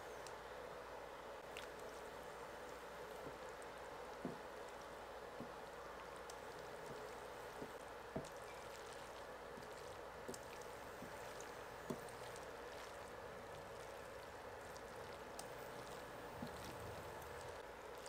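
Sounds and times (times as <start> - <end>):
spaghetti stirred in sauce: 1.4 - 18.0.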